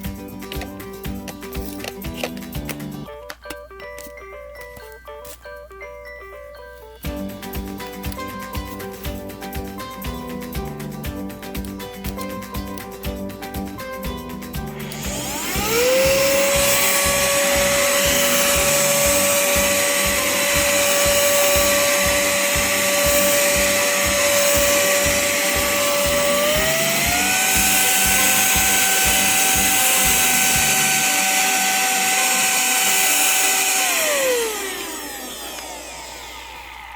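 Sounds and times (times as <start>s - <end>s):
air duster fan motor whine: 7.1s - 36.9s.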